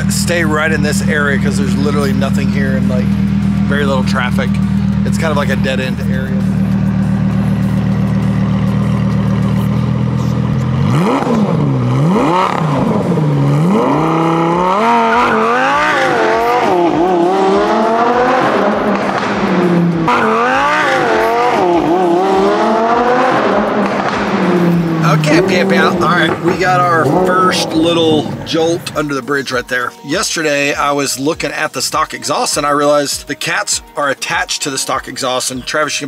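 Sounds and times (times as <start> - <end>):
sports car engine idling and revving: 0.0 - 29.8.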